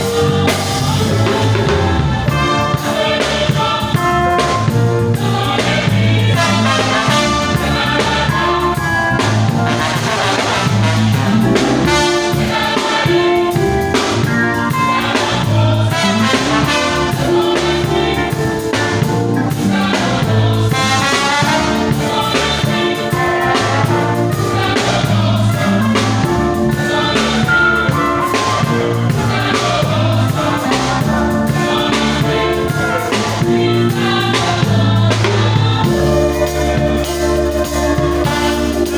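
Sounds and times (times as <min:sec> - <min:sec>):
bass: 0:00.0 - 0:38.9
choir singing gospel: 0:00.0 - 0:38.9
steady drum beat: 0:00.0 - 0:38.9.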